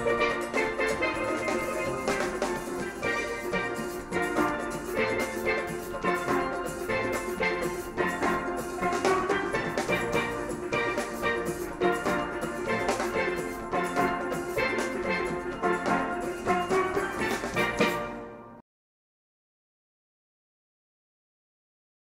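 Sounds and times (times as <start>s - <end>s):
drum rhythm: 0.0s - 18.4s
steelpans ringing notes: 0.0s - 18.6s.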